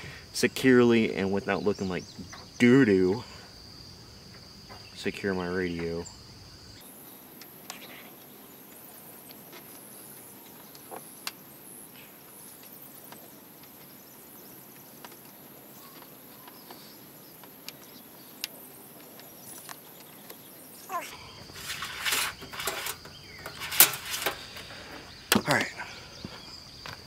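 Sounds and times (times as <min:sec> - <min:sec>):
high-pitched insect trill: 0:00.3 - 0:27.0.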